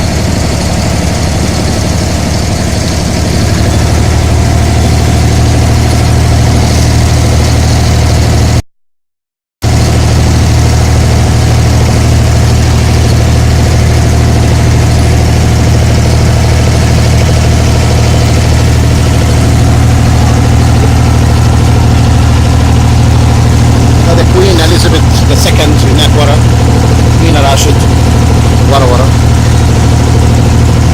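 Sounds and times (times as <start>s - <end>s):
boat engine droning: 0.0s - 8.6s, 9.6s - 30.9s.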